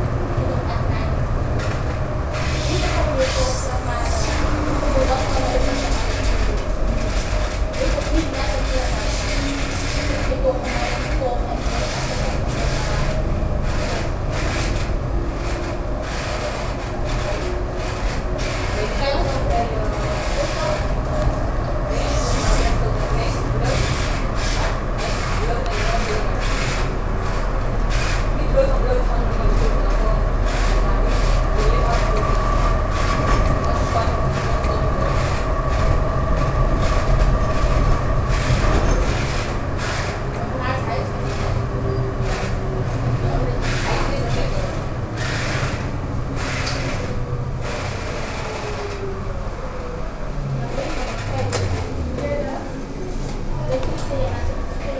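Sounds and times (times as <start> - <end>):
steady whine: 0.0 - 54.9
tram wheels and motors rumbling: 0.0 - 54.9
steel wheels scraping on rails: 1.0 - 49.5, 50.4 - 54.9.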